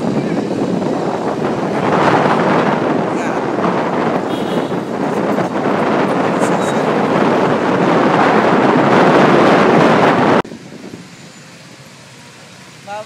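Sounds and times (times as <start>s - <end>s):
faint street ambience: 0.0s - 13.0s
motorbike road noise: 0.0s - 13.0s
wind buffeting microphone: 0.0s - 13.0s.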